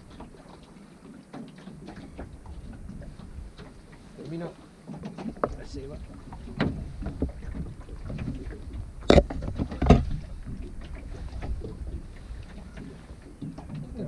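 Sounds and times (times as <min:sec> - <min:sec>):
water lapping at boat: 0:00.0 - 0:14.0
wind buffeting microphone: 0:01.8 - 0:14.0.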